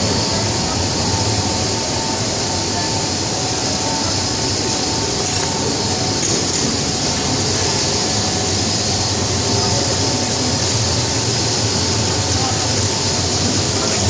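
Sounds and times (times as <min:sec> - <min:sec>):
high machine whine: 0:00.0 - 0:14.0
machinery hum: 0:00.0 - 0:14.0.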